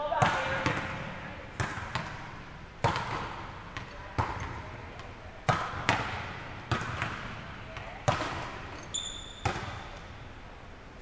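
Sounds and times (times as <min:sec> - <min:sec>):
volleyballs smacking gym floor: 0:00.2 - 0:10.1.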